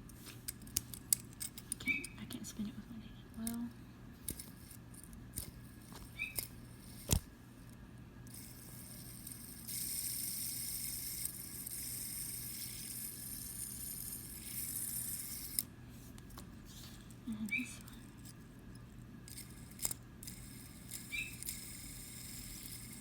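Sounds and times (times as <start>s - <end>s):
fidget spinner bearing whirring: 0.0s - 2.7s, 3.3s - 23.0s
fidget spinner clicks: 0.0s - 2.7s, 3.3s - 3.6s, 4.2s - 16.4s, 17.4s - 23.0s.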